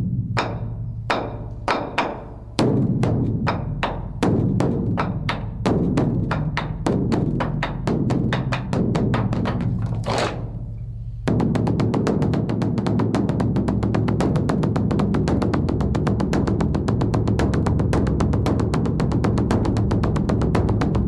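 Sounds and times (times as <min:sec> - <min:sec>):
large drum beaten: 0:00.0 - 0:21.0.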